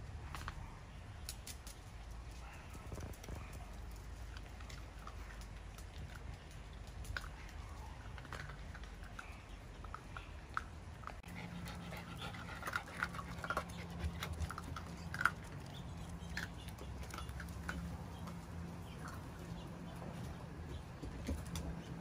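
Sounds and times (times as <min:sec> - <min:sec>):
puppies crunching dry kibble: 0:00.2 - 0:22.0.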